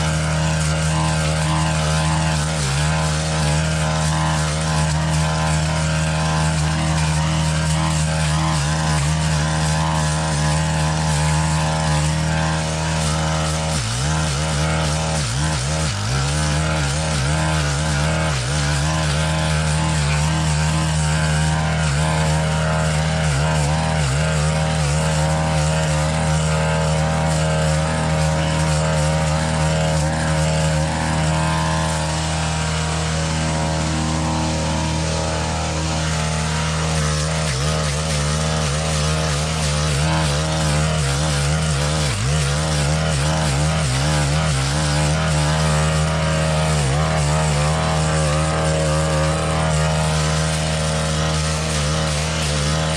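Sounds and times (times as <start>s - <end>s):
brush cutter engine at high throttle: 0.0s - 52.9s.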